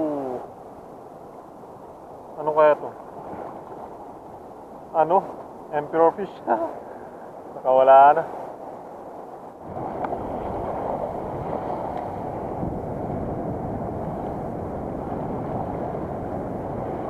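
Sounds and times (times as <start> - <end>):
surf washing on beach: 0.0 - 17.0
wind on microphone: 0.0 - 17.0.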